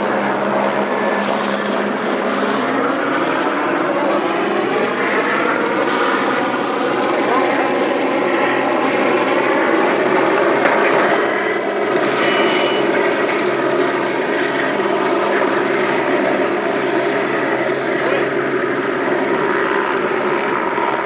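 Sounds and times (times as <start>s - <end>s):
helicopter flying low: 0.0s - 21.0s.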